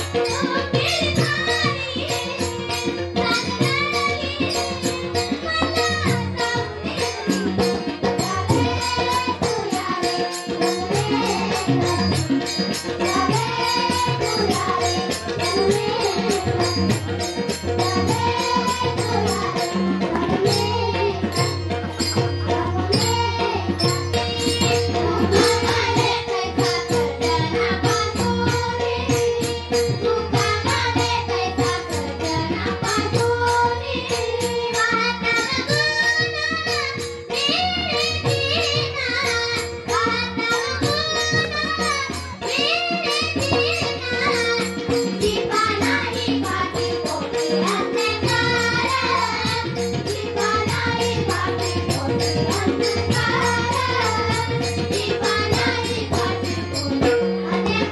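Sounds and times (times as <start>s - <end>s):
fast dense percussion: 0.0s - 57.9s.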